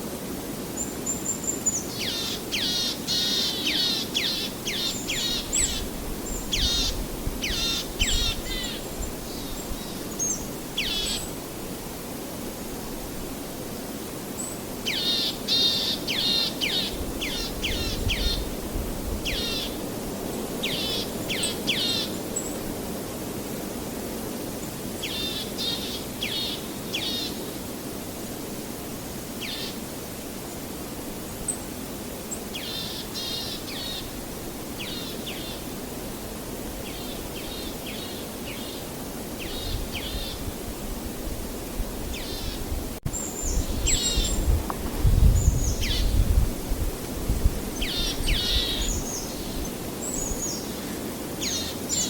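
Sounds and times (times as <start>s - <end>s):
low rushing background noise: 0.0s - 52.0s.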